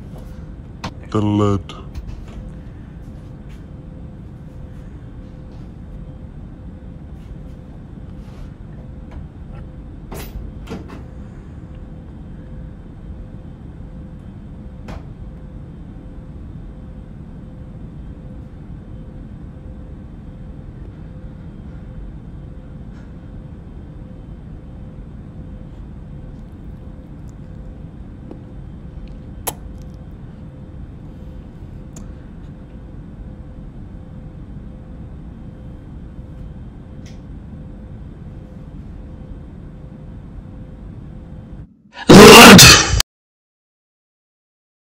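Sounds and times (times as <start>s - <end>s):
faint hum: 0.0s - 43.0s.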